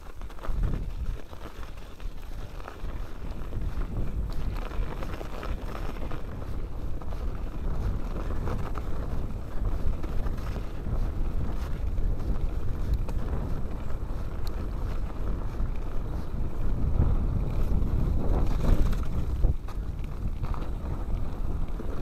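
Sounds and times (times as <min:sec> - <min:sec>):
bike rumbling and rattling: 0:00.0 - 0:22.0
wind buffeting microphone: 0:00.0 - 0:22.0.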